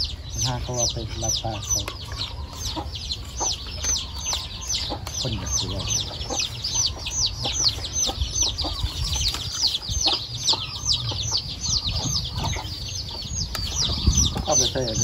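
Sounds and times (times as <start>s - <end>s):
chicken clucks: 0.0s - 15.0s
chickens peeping: 0.0s - 15.0s.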